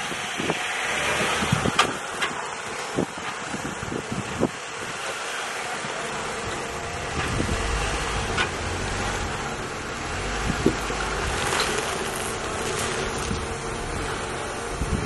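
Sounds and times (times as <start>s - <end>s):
wind buffeting microphone: 0.0s - 2.2s, 2.8s - 5.1s, 6.4s - 15.0s
low engine rumble: 0.0s - 15.0s.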